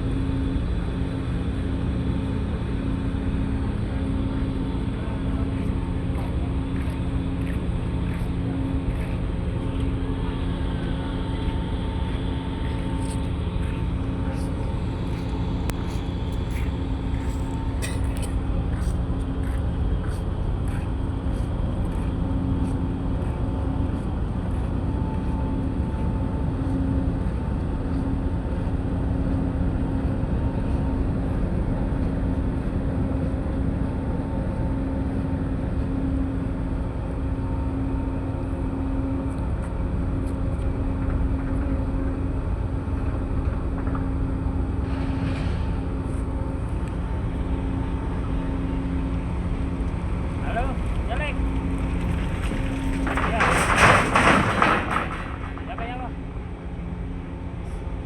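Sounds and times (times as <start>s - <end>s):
ship engine droning: 0.0s - 58.0s.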